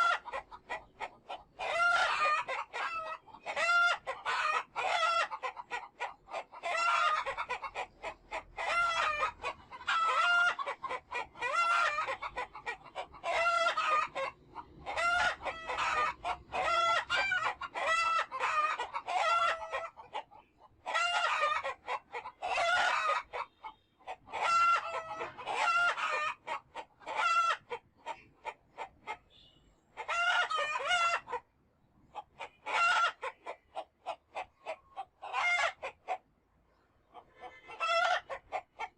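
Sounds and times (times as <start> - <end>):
chickens calling: 0.0 - 31.5, 32.1 - 38.9.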